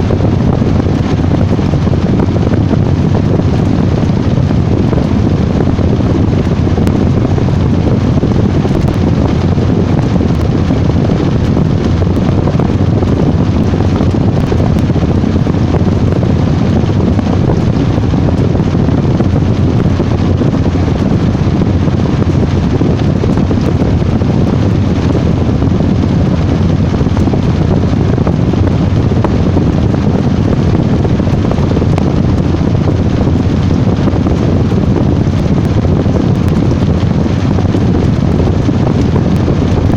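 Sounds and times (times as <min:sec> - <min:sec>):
washing machine rumbling: 0:00.0 - 0:39.9.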